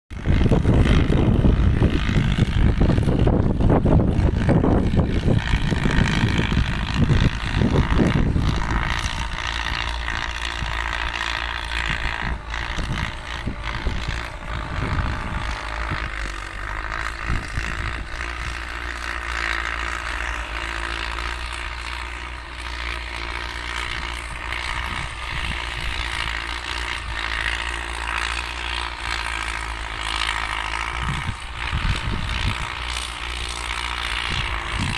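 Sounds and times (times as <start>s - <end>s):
tractor engines droning: 0.1s - 34.9s.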